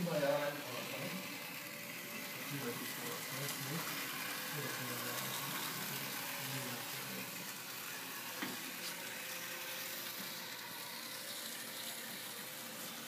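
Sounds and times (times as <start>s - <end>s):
model trams whirring: 0.0s - 13.0s.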